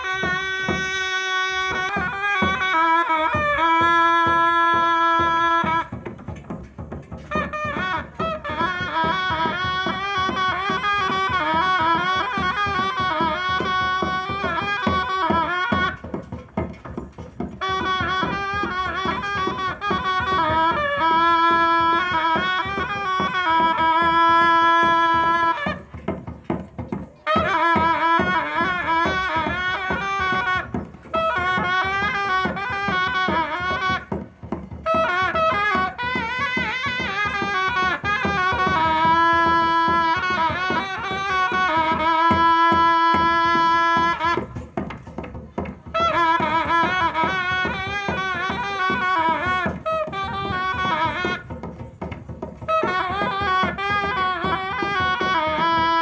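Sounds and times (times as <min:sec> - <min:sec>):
shrill reed pipe melody: 0:00.0 - 0:56.0
steady drum beat: 0:00.0 - 0:56.0.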